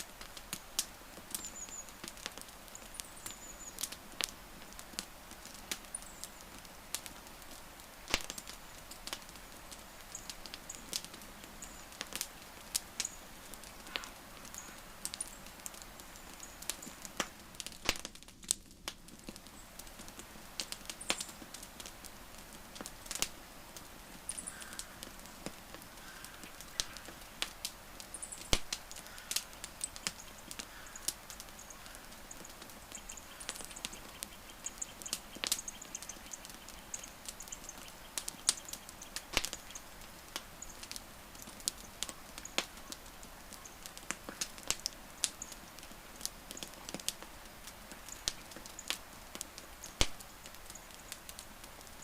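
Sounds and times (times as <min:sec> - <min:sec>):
soft steady hiss: 0:00.0 - 0:52.0
wood fire crackling: 0:00.0 - 0:52.0.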